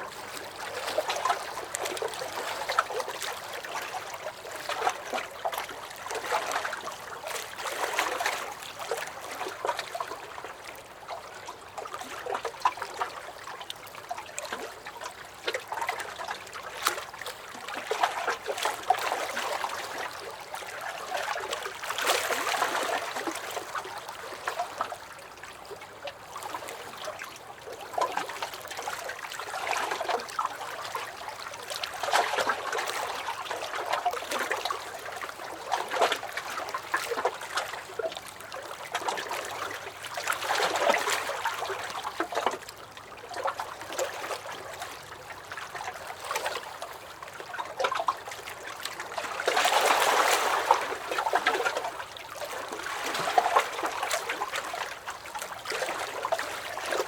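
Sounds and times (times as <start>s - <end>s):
water splashing and trickling: 0.0s - 57.0s
waves lapping against a dock: 0.0s - 57.0s.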